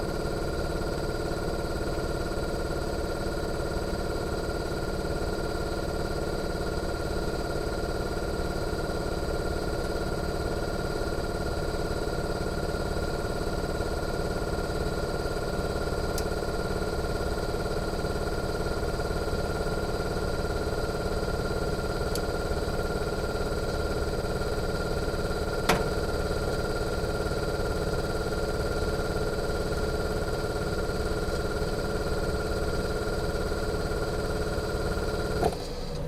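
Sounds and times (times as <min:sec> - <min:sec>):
air conditioner compressor hum: 0:00.0 - 0:36.0.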